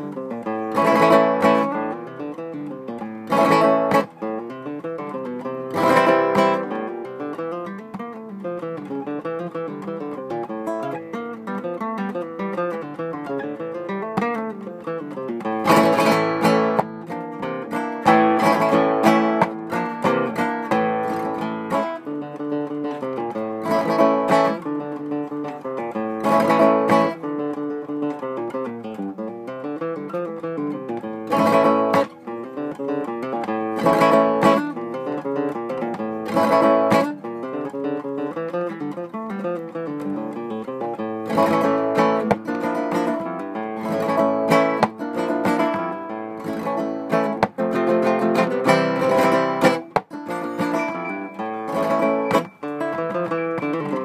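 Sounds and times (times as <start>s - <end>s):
flamenco guitar playing: 0.0s - 54.0s.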